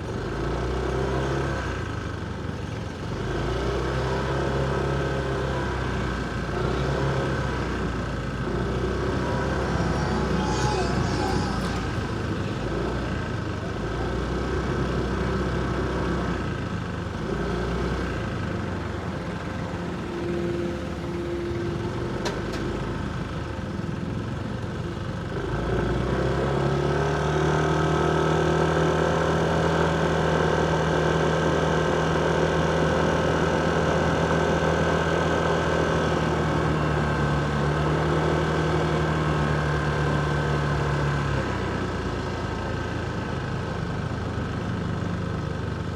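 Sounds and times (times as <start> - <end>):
steady engine hum: 0.0 - 45.9
street traffic: 0.0 - 45.9.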